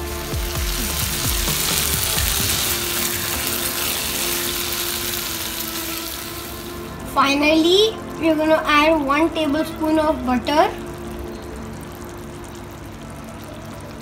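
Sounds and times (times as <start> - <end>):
background music: 0.0 - 14.0
seafood sizzling in a frying pan: 0.0 - 14.0.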